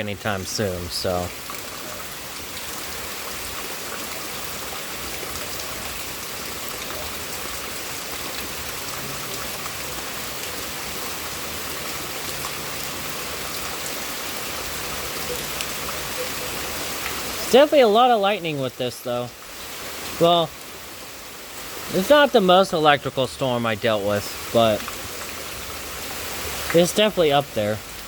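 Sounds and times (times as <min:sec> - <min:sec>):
heavy rain pattering: 0:00.0 - 0:28.0.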